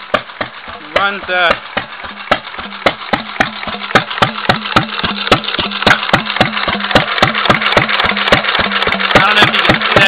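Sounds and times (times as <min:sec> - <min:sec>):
gas engine running: 0:00.0 - 0:10.0.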